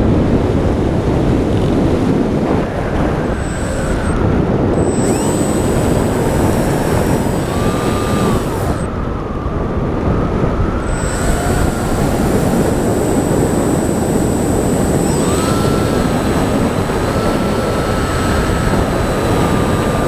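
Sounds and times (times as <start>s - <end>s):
model airplane motor whine: 0.0s - 20.0s
wind rushing over microphone: 0.0s - 20.0s.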